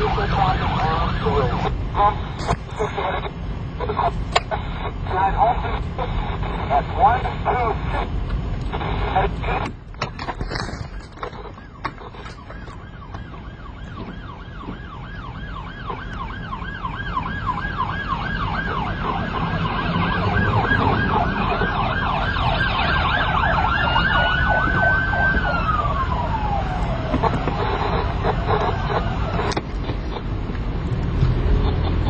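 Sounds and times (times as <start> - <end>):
police sirens yelping: 0.0 - 30.5
vehicle engine rumble: 0.0 - 32.0.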